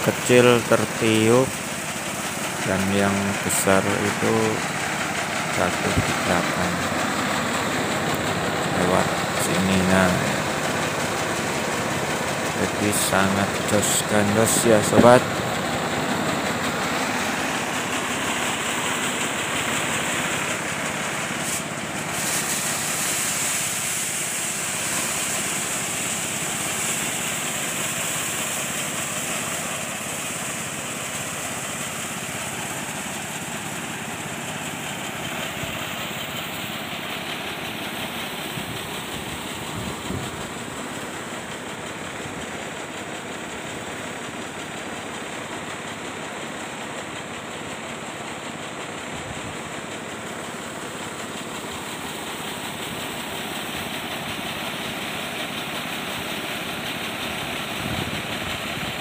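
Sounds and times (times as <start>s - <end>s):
rice thresher running: 0.0s - 59.0s.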